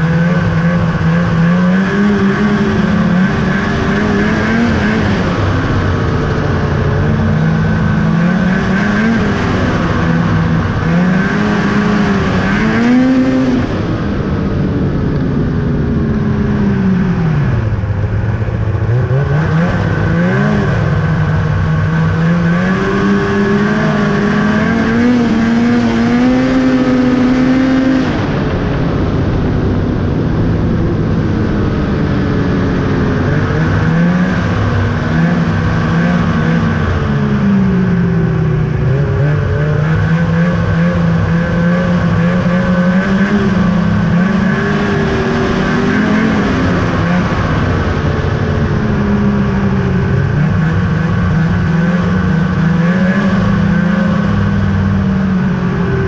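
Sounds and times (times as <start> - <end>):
snowmobile engine revving: 0.0 - 29.8, 30.7 - 56.0.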